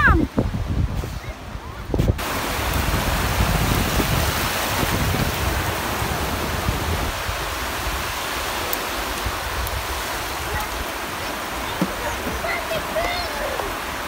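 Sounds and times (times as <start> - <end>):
low rumble of waves: 0.0 - 14.0
surf washing onto beach: 0.0 - 14.0.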